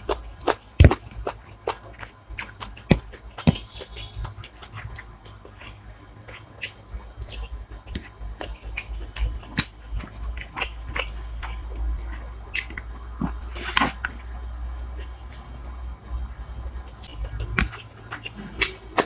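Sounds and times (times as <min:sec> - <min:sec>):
person chewing and biting: 0:00.0 - 0:14.3, 0:17.0 - 0:19.0.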